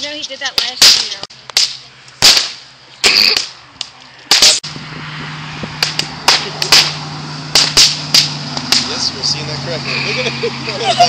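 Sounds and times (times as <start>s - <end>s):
firecrackers banging: 0.0s - 4.7s, 5.6s - 11.0s.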